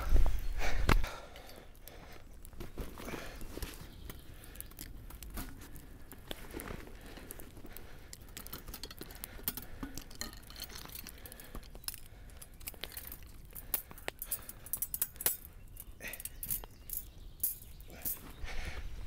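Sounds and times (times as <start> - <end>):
campfire crackling and popping: 0.3 - 18.0.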